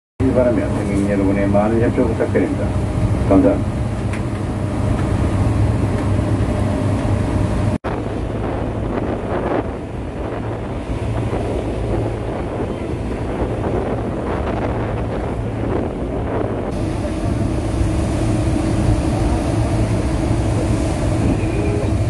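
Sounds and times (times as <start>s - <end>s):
ferry engine humming: 0.2s - 22.0s
water rushing along hull: 0.2s - 22.0s
wind buffeting microphone: 0.2s - 22.0s.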